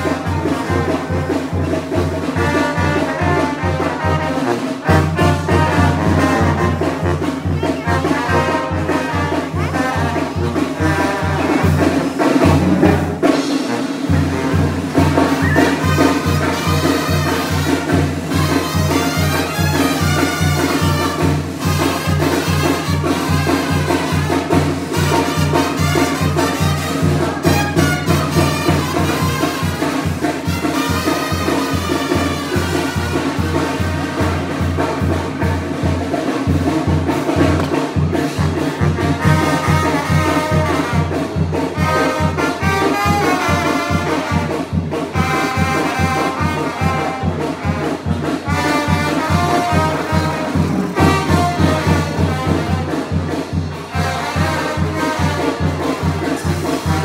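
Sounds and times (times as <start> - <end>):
brass band music: 0.0 - 57.0.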